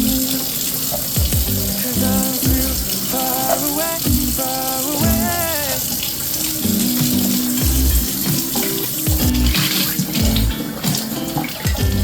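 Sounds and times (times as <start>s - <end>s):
background music with steady beat: 0.0s - 12.0s
tap running water into sink: 0.0s - 12.0s.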